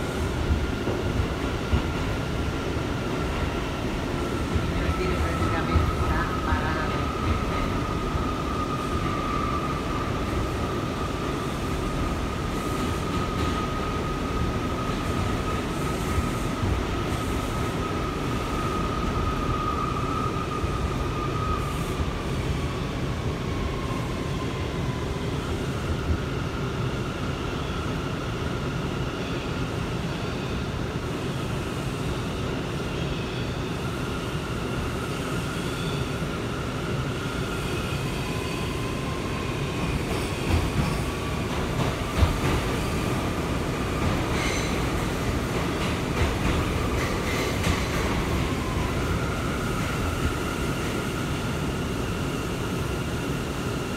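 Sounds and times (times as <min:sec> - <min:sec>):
train wheels rumbling on rails: 0:00.0 - 0:28.7, 0:33.8 - 0:53.9.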